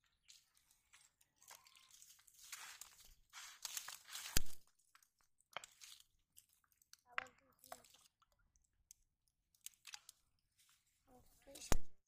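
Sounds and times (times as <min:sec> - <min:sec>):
straw crackling and rustling: 0:00.0 - 0:12.0.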